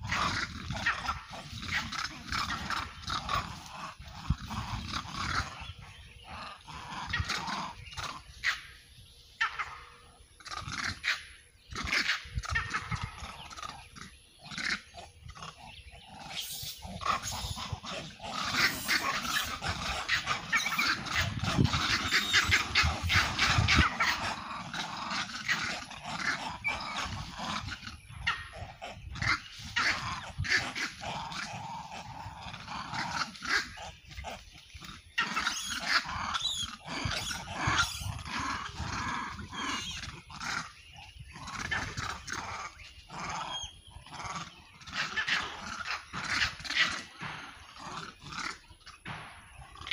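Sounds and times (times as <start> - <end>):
monkeys screeching and chattering: 0.0 - 49.9.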